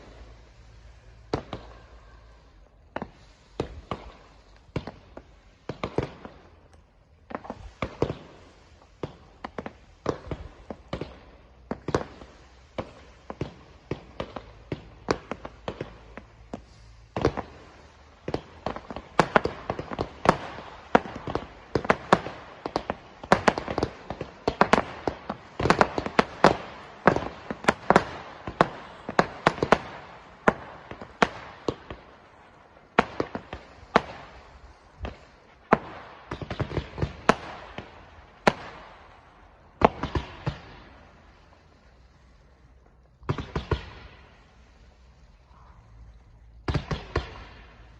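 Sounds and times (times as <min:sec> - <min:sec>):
fireworks popping and crackling: 0:00.0 - 0:47.9.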